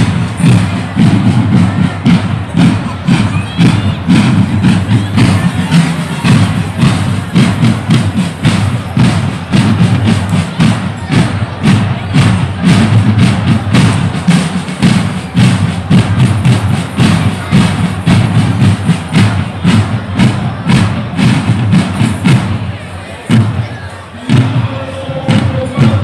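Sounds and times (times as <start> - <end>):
bass drum beats: 0.0 - 26.0
rapid snare drum strokes: 0.0 - 26.0.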